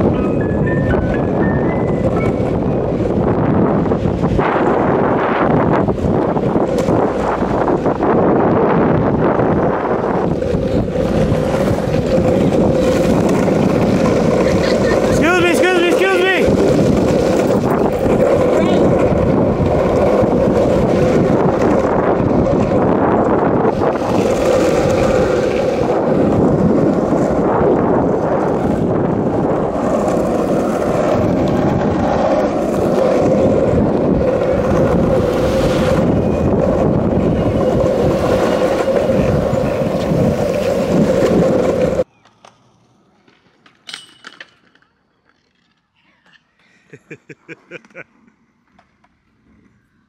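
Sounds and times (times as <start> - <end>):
skateboard wheels rolling on asphalt: 0.0 - 50.0.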